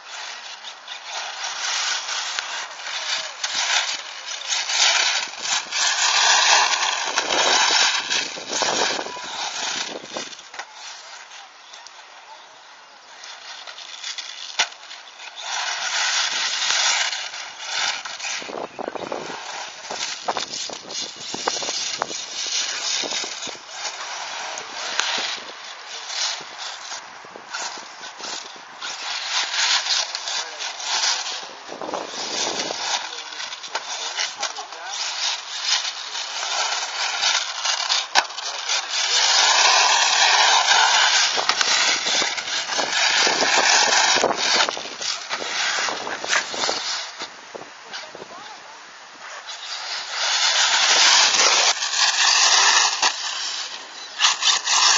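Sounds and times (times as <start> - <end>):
rc car tyres hissing over dirt: 0.0 - 54.9.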